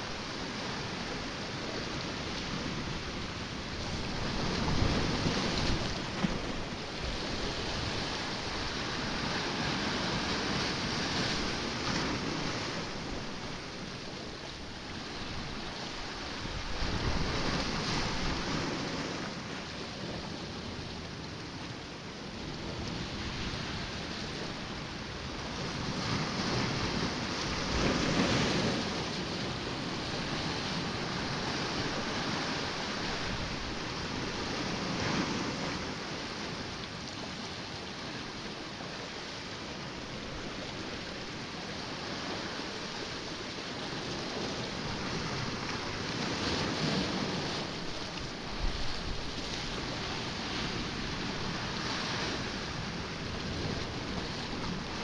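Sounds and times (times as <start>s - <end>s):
waves washing against rocks: 0.0s - 55.0s
wind: 0.0s - 55.0s.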